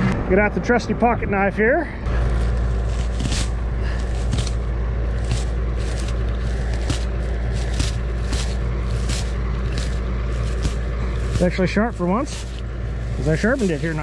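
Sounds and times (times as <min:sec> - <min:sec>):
tractor engine idling: 0:00.5 - 0:14.0
scraping and crunching: 0:02.1 - 0:14.0.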